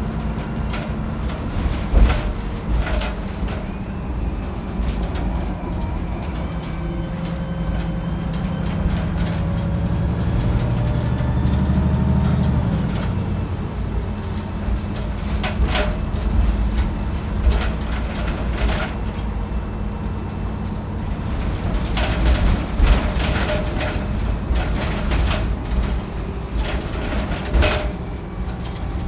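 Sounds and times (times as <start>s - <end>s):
bus diesel engine under load: 0.0s - 29.0s.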